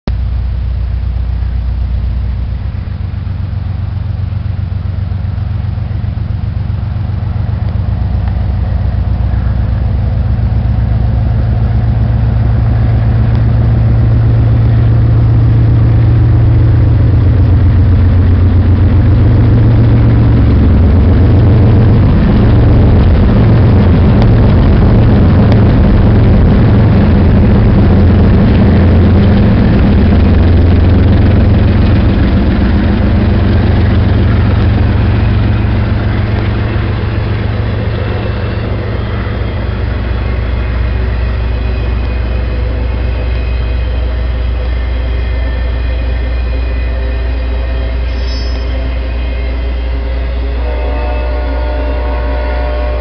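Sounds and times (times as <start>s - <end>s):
freight locomotive engine drone: 0.0s - 53.0s.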